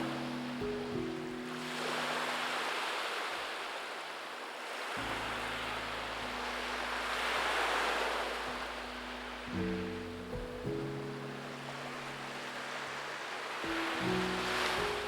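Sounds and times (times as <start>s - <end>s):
soft background music: 0.0s - 3.4s, 5.0s - 15.0s
ocean surf washing in: 0.0s - 15.0s.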